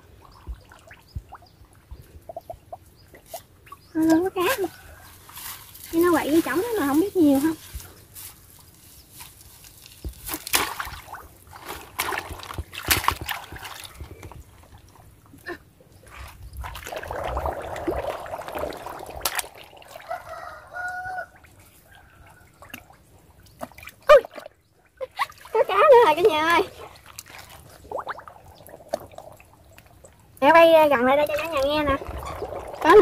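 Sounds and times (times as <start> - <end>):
water sloshing and splashing: 0.0 - 33.0.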